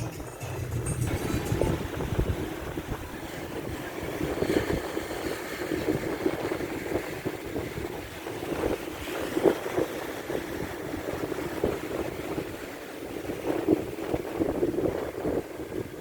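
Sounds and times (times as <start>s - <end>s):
rough water: 0.0s - 16.0s
wind gusting against microphone: 1.1s - 16.0s.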